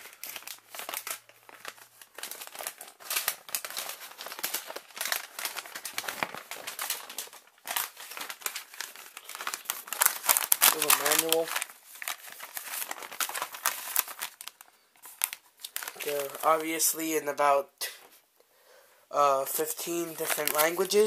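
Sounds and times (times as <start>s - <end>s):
paper and cardboard crinkling: 0.0s - 17.0s, 19.5s - 21.0s.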